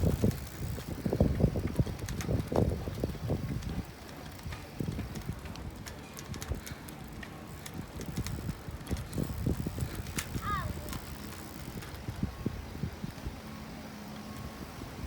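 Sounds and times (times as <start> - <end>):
bicycle rattling and knocking: 0.0 - 15.0
wind rumble on microphone: 0.0 - 15.0.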